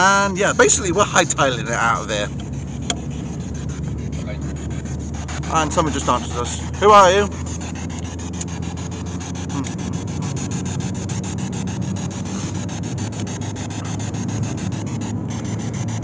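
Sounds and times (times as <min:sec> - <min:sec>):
car engine rumble: 0:00.0 - 0:16.0
road noise inside car: 0:00.0 - 0:16.0.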